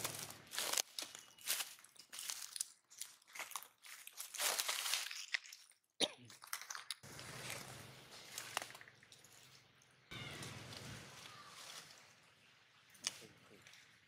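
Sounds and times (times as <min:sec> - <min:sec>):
dry leaves crackling and rustling: 0:00.0 - 0:05.8, 0:06.4 - 0:13.9.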